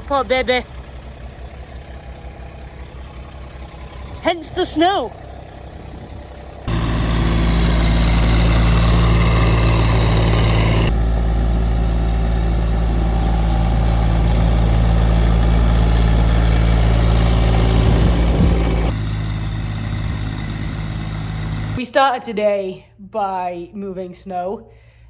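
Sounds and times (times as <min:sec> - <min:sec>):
vehicle engine idling: 0:00.0 - 0:21.8.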